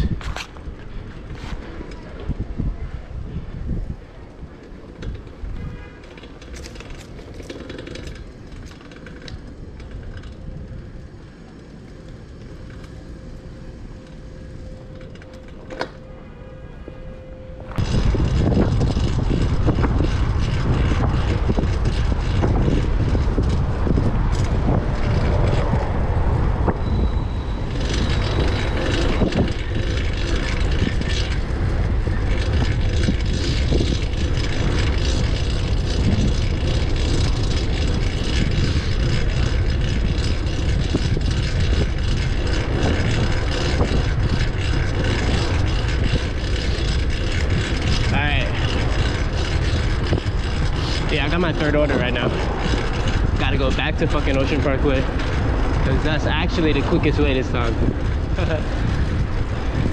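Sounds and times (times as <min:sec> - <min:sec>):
road and traffic noise: 0:00.0 - 0:59.9
wind buffeting microphone: 0:00.0 - 0:59.9.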